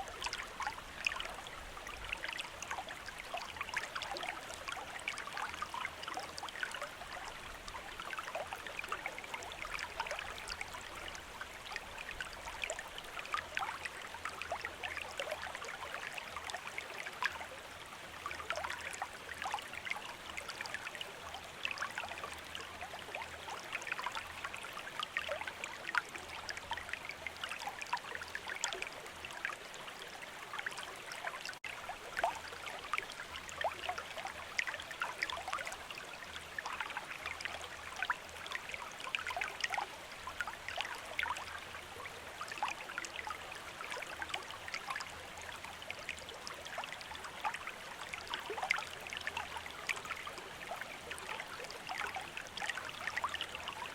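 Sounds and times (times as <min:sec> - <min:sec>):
river water running: 0:00.0 - 0:53.9.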